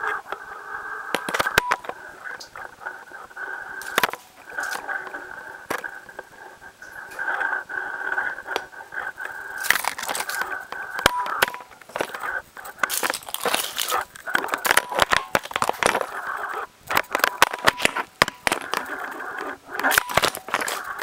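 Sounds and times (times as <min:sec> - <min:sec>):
steady mid-pitched hum: 0:00.0 - 0:21.0.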